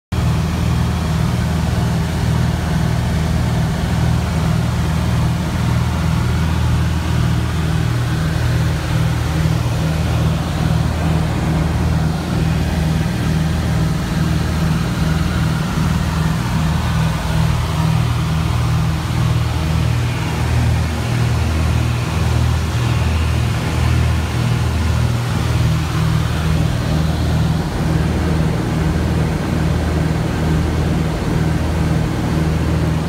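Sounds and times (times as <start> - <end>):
piston engines droning: 0.2 - 33.0.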